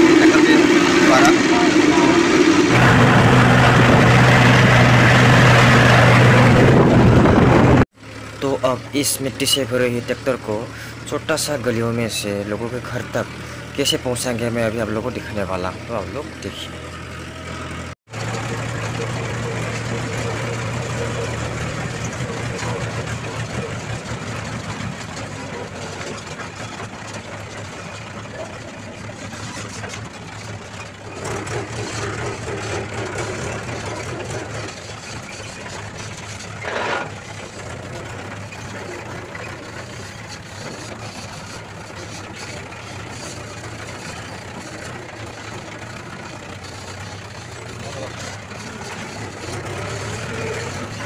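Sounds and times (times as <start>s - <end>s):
tractor diesel engine drone: 0.0s - 51.0s.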